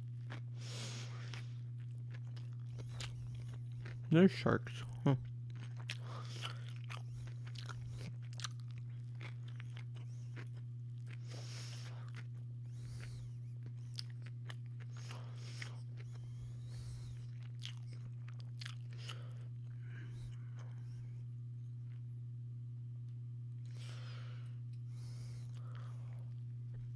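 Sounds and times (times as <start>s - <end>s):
person chewing crunchy sandwich: 0.0s - 22.1s, 23.5s - 26.9s
steady low hum: 0.0s - 26.9s.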